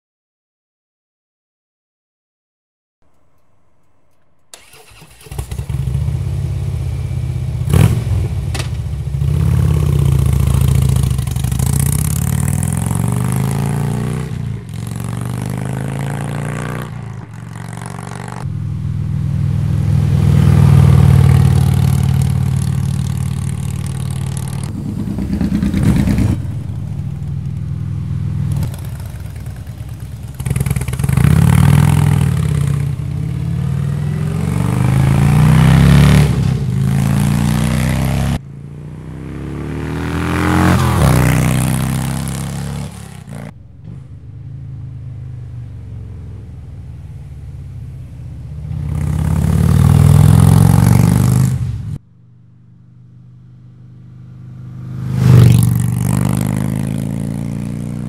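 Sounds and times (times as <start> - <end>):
motorcycle engine revving and passing: 4.5 - 58.0.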